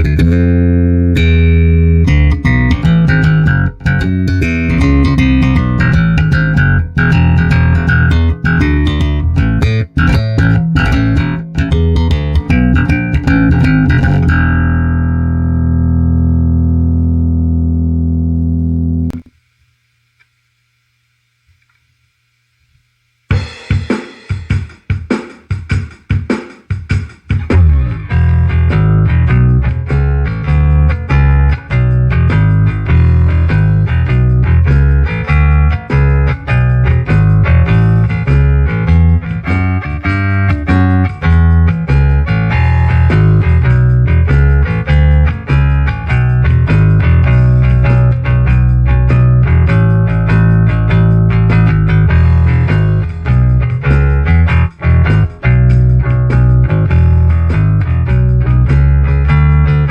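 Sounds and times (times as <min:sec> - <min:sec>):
electric bass plucked notes: 0:00.0 - 0:19.3, 0:27.4 - 0:59.9
faint amp hum: 0:00.0 - 0:24.4, 0:27.4 - 0:59.9.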